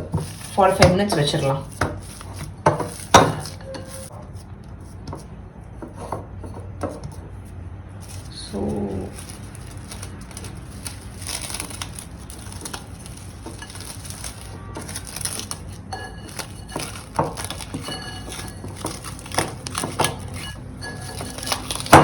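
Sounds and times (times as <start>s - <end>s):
hands kneading dough: 0.0s - 22.0s.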